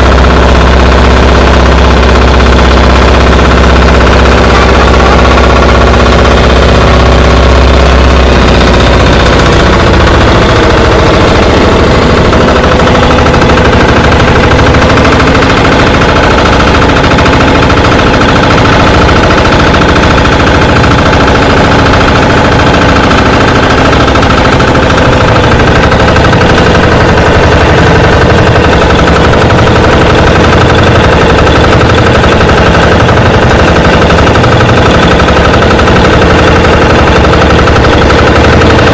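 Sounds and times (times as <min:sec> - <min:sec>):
motor engine running loudly: 0:00.0 - 0:38.9.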